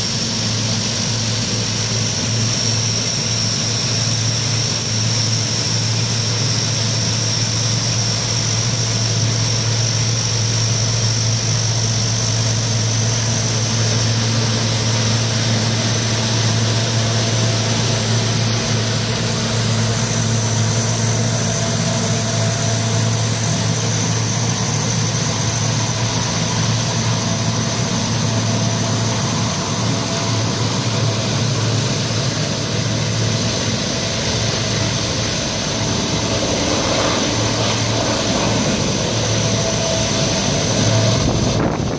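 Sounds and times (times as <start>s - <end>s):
high turbine whine: 0.0s - 41.9s
propeller drone: 0.0s - 41.9s.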